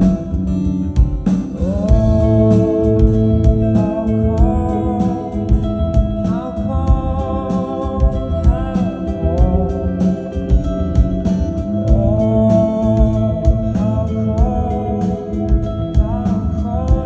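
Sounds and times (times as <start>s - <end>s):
bass: 0.0s - 17.0s
drum beat: 0.0s - 17.0s
keyboard chords: 0.0s - 17.0s
person singing: 1.5s - 17.0s.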